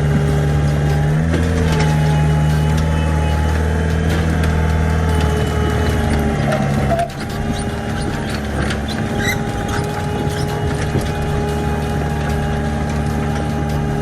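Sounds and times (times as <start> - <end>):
excavator diesel engine running: 0.0 - 14.0
steady whine: 0.0 - 14.0.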